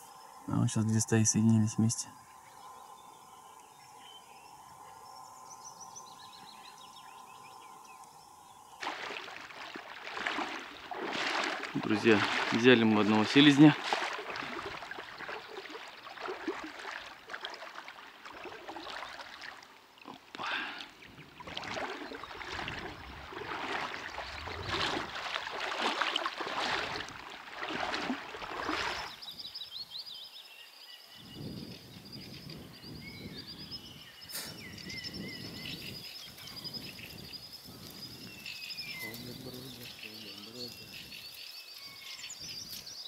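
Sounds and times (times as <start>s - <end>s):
birds chirping and trilling: 0.0s - 43.0s.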